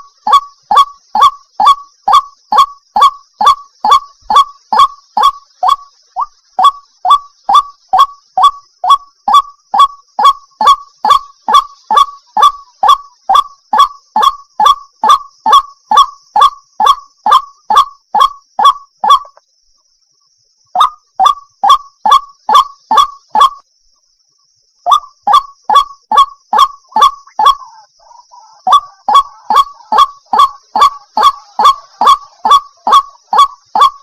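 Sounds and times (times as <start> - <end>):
water hen calling: 0.0 - 19.4, 20.8 - 23.6, 24.9 - 34.0.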